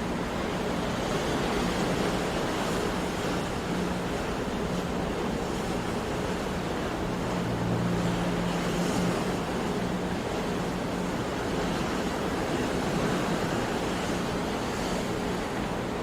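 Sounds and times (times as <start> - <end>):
sea waves surf: 0.0 - 16.0.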